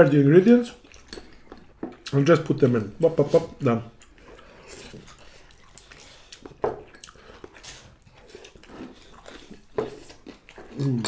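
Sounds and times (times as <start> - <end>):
chewing and mouth sounds: 0.6 - 11.0.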